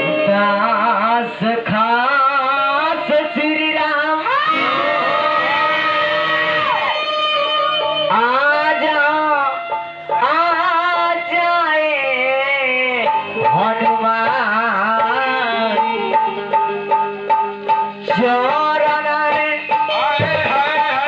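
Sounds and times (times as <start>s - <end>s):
man singing into a microphone: 0.0s - 21.0s
musical accompaniment: 0.0s - 21.0s.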